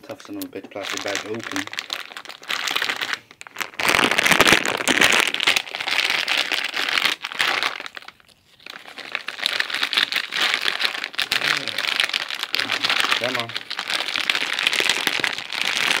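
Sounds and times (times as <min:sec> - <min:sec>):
plastic bag crinkling: 0:00.3 - 0:16.0.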